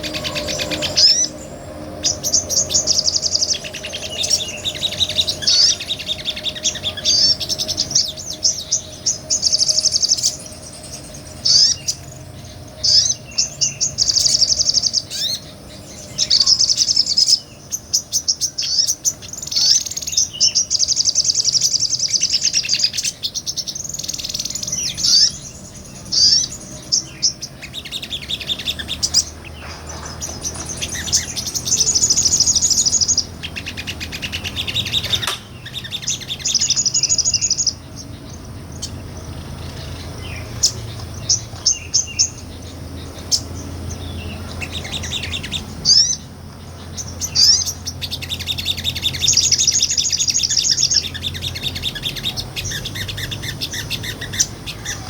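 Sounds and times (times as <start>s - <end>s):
songbird chattering trills: 0.0s - 55.0s.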